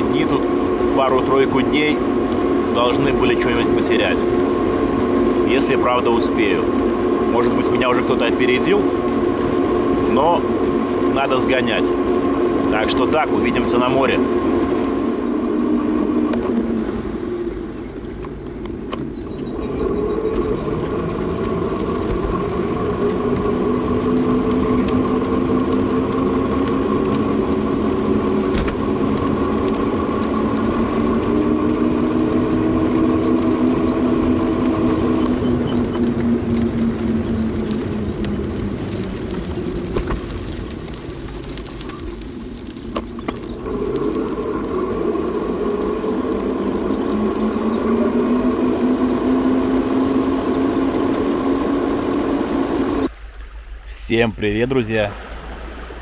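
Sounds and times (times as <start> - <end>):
road and wind noise: 0.0 - 56.0
vehicle motor humming: 0.0 - 56.0.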